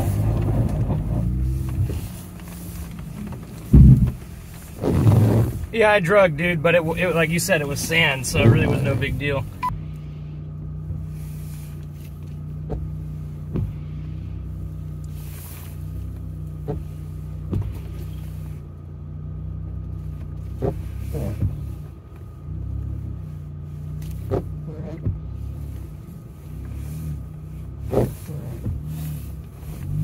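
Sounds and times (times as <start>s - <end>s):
engine low hum from cabin: 0.0s - 30.0s.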